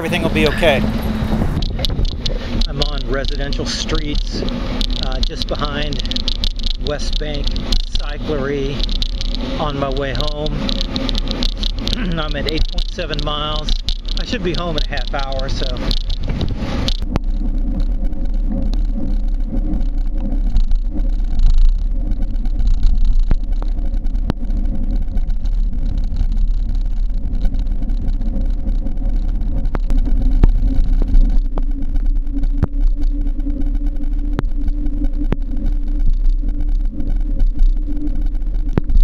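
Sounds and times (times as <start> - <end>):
wind rumble on microphone: 0.0 - 39.0
sharp clicks: 1.4 - 39.0.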